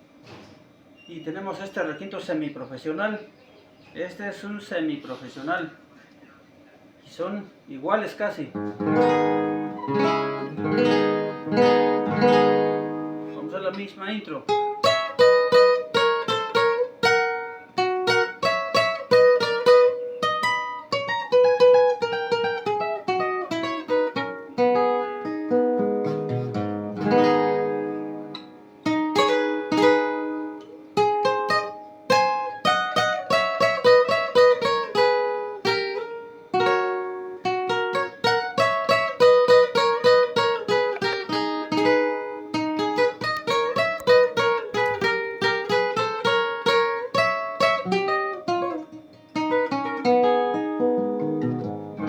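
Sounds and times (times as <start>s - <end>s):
small guitar picked melody: 8.5s - 52.0s.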